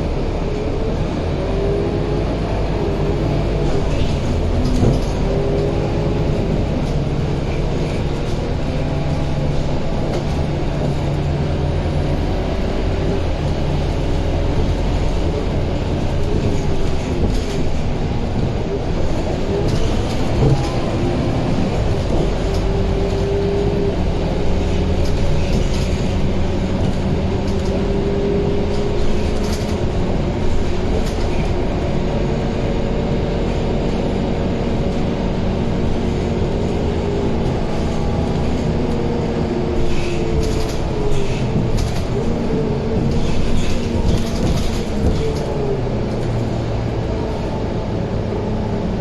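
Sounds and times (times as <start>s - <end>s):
bus diesel engine droning: 0.0s - 49.0s.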